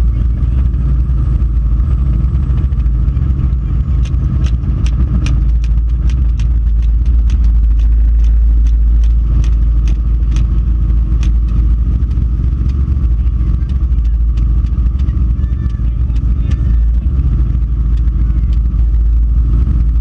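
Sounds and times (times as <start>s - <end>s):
helicopter engine and rotor rumble: 0.0s - 20.0s
light regular ticking: 2.0s - 20.0s.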